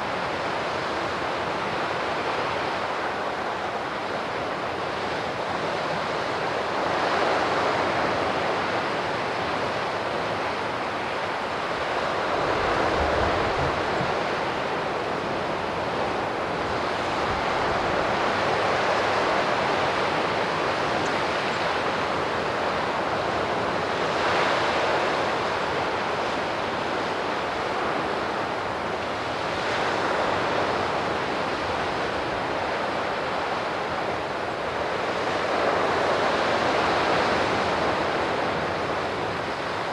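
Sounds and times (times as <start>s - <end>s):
sea surf washing onto shore: 0.0s - 39.9s.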